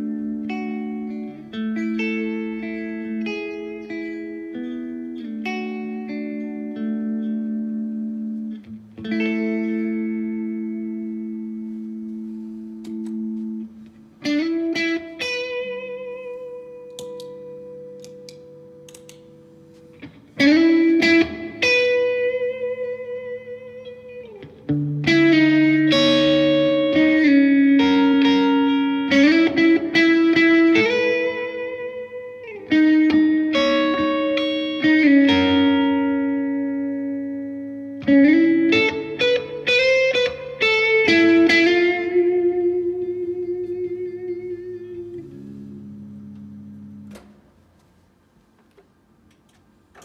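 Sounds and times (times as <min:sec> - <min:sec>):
electric guitar chords and notes: 0:00.0 - 0:47.6.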